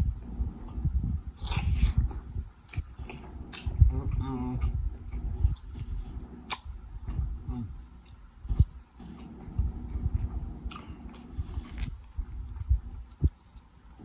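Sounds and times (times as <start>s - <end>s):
person chewing: 1.4s - 4.2s, 5.1s - 14.0s.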